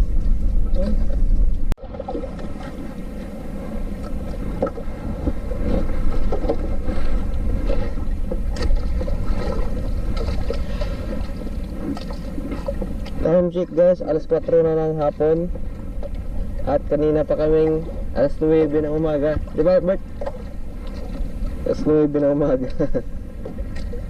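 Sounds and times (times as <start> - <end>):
water splashing against boat hull: 0.0 - 24.0
wind on microphone: 0.0 - 24.0.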